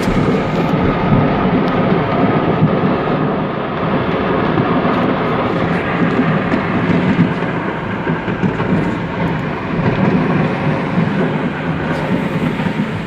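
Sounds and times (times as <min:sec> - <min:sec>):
fireworks rumbling and crackling: 0:00.0 - 0:13.0.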